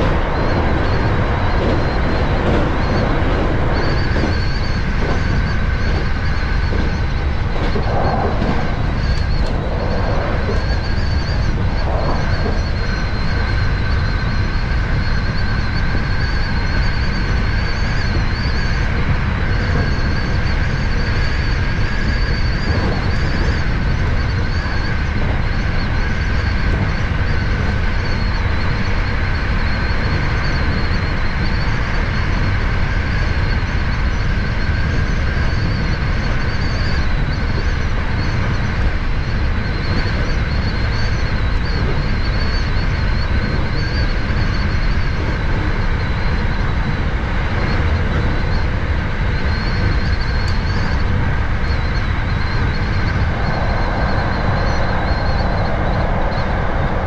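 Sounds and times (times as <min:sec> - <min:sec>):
faint high whine: 0:00.0 - 0:57.0
train wheels rumbling on rail: 0:00.0 - 0:57.0.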